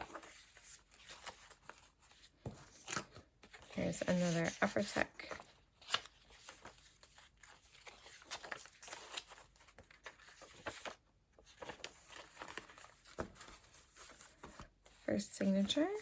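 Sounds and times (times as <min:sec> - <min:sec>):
paper pages rustling: 0:00.0 - 0:16.0.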